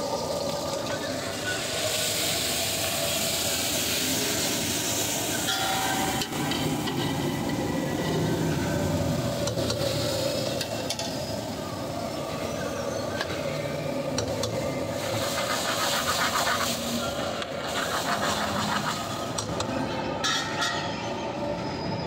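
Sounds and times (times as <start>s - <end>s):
gas burner flame rushing: 0.0s - 12.3s, 13.1s - 19.7s.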